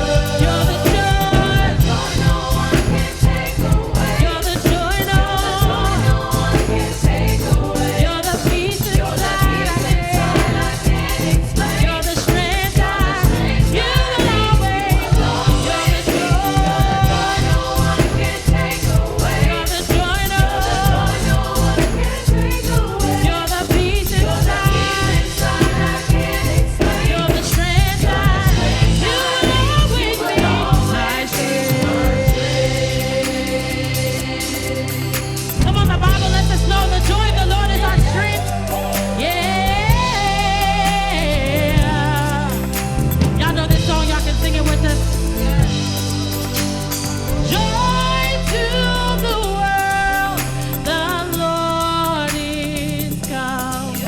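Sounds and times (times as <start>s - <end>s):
backing instruments: 0.0s - 54.0s
group of singers: 0.0s - 54.0s
steady drum beat: 0.0s - 54.0s.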